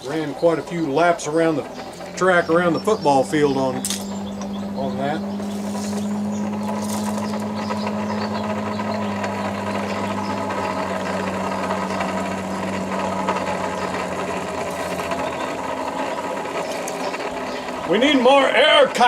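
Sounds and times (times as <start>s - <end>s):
forge blower humming: 0.0s - 19.0s.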